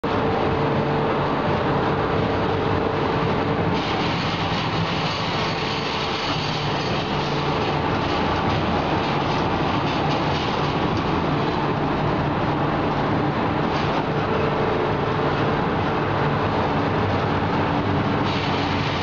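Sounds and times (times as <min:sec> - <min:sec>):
machinery clattering with low hum: 0:00.0 - 0:19.0
steady machine whine: 0:00.0 - 0:19.0.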